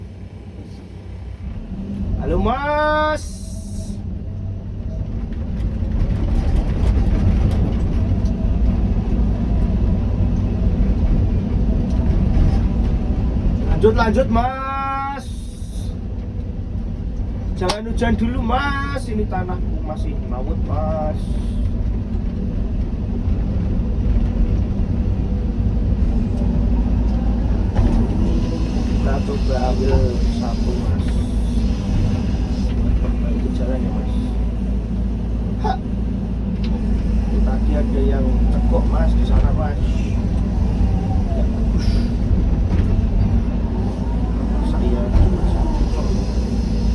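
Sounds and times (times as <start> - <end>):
excavator diesel engine droning: 0.0 - 46.9.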